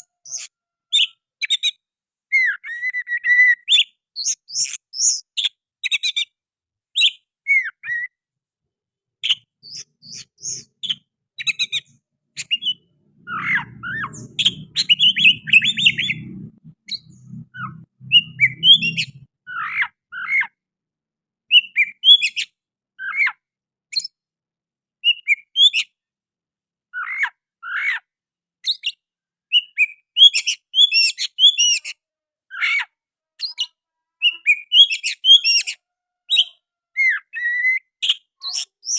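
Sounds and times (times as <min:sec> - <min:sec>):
bird singing varied chirps: 0:00.0 - 0:08.2, 0:09.2 - 0:20.6, 0:21.5 - 0:24.2, 0:25.0 - 0:26.0, 0:26.9 - 0:38.9.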